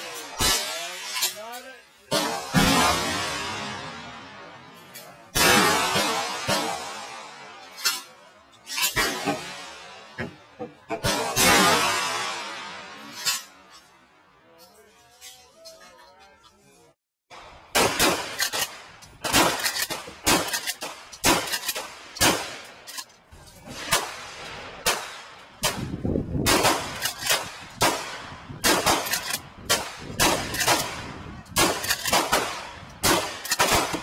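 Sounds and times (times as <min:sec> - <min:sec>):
gunshots echoing: 0:00.0 - 0:01.5, 0:02.1 - 0:07.7, 0:08.9 - 0:13.2, 0:17.3 - 0:23.0, 0:23.7 - 0:34.0.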